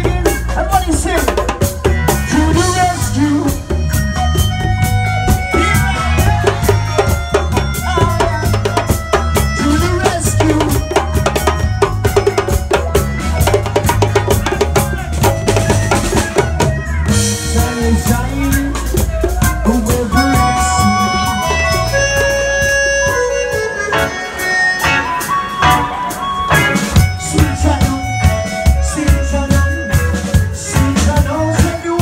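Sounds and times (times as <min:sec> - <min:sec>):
bass guitar: 0:00.0 - 0:32.0
drum kit: 0:00.0 - 0:32.0
reggae band playing: 0:00.0 - 0:32.0.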